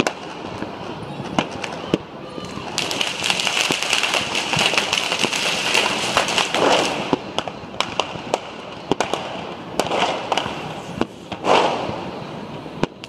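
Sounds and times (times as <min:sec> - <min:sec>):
firework rushes of noise: 0:00.0 - 0:13.0
fireworks and firecrackers banging: 0:00.0 - 0:13.0.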